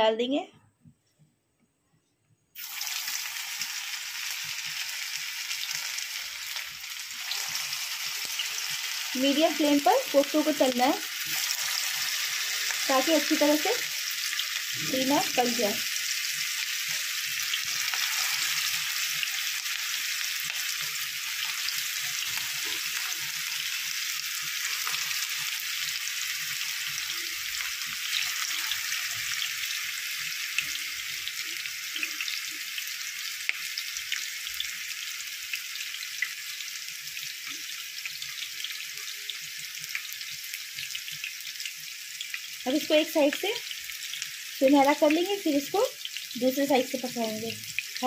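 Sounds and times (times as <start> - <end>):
food sizzling in hot oil: 2.6 - 48.0.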